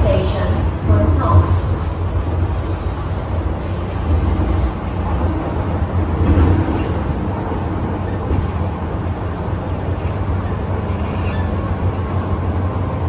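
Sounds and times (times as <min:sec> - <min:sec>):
metro train wheels rumbling: 0:00.0 - 0:13.0.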